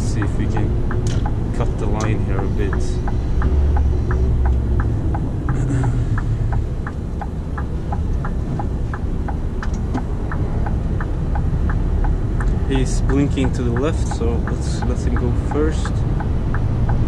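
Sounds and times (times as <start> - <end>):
diesel engine drone: 0.0 - 17.0
turn signal ticking: 0.0 - 17.0.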